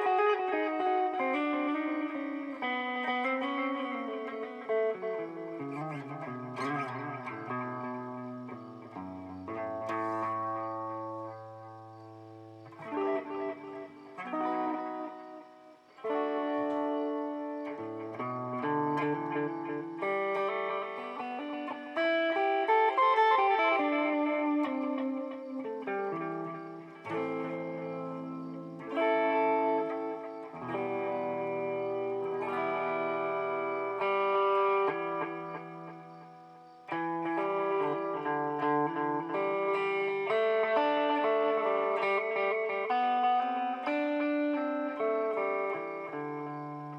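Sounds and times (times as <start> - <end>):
electric guitar chords with delay: 0.0 - 46.9.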